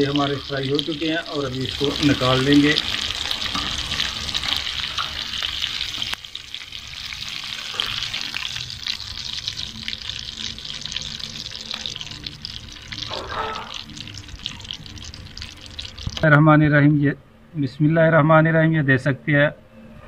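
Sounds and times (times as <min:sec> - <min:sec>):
gourds sizzling in hot oil: 0:00.0 - 0:16.3.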